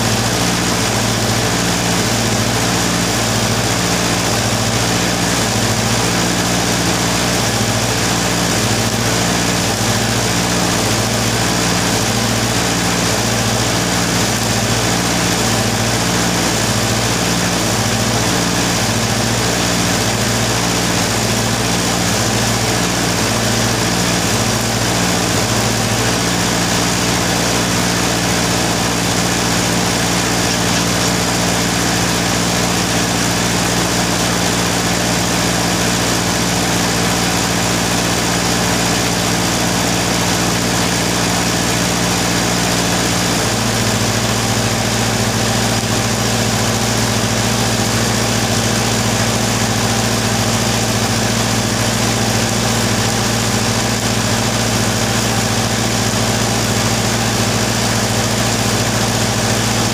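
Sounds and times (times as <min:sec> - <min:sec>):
arc welder humming with hiss: 0:00.0 - 0:59.9.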